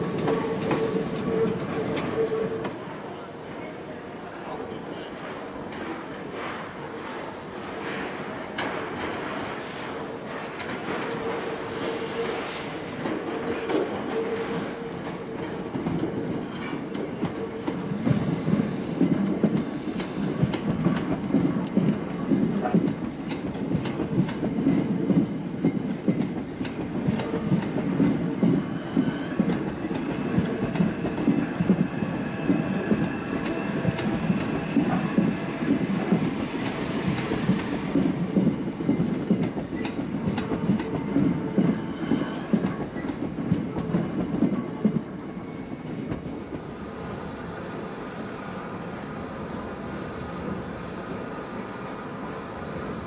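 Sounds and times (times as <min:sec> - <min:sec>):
train wheels rumbling on rails: 0:00.0 - 0:53.0
steam hissing: 0:02.5 - 0:46.0.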